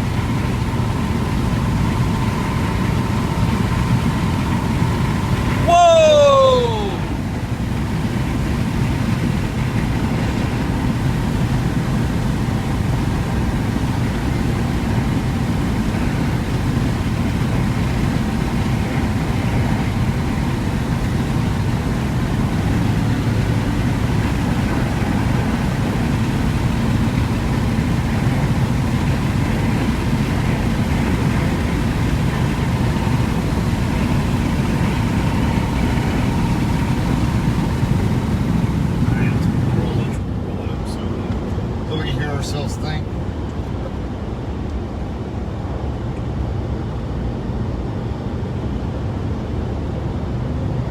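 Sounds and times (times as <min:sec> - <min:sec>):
faint steady whine: 0:00.0 - 0:44.8
car road and engine noise: 0:00.0 - 0:50.9.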